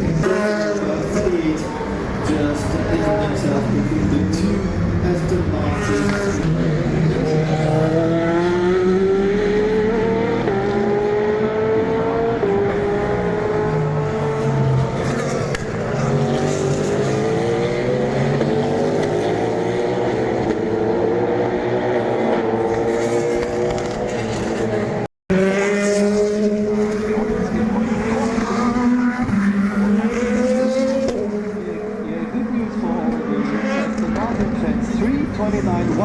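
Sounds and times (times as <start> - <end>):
race car engines accelerating: 0.0 - 36.0.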